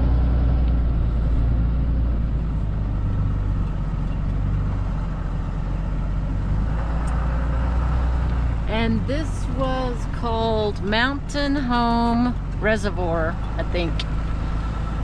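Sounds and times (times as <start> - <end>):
truck engine and tyre rumble: 0.0 - 15.0.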